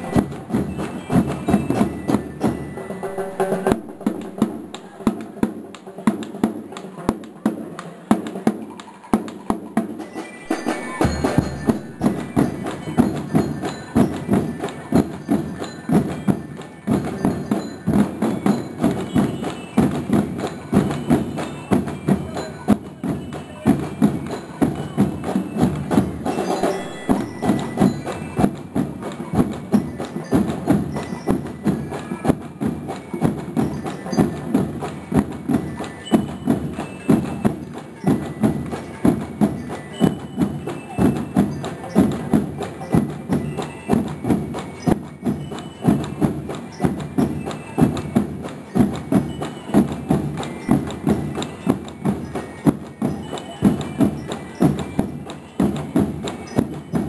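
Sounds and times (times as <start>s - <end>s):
marching drum line: 0.0s - 57.0s.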